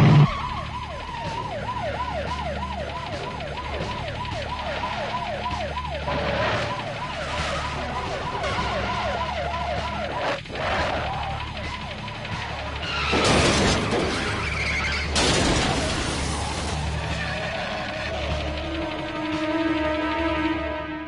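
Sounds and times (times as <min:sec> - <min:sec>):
lower siren: 0:00.0 - 0:15.1, 0:16.7 - 0:21.0
police siren yelping: 0:00.0 - 0:15.2, 0:16.7 - 0:21.0
car engines rumbling: 0:00.0 - 0:21.0.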